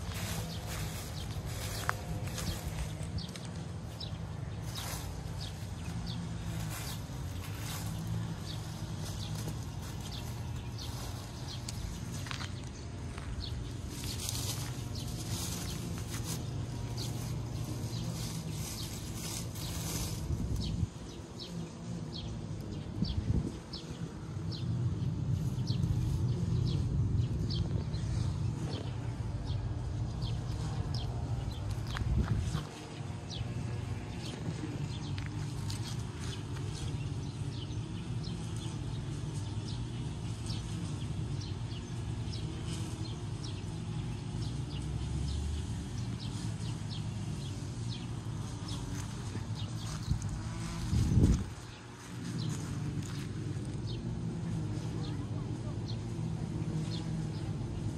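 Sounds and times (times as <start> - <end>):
distant city traffic hum: 0.0 - 57.9
dry leaves rustling and crunching: 0.0 - 57.9
small birds chirping: 0.0 - 57.9.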